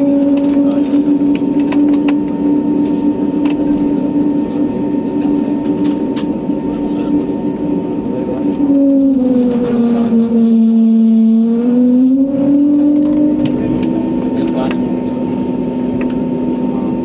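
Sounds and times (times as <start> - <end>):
airliner engines droning in cabin: 0.0 - 17.0
low hum: 0.0 - 17.0.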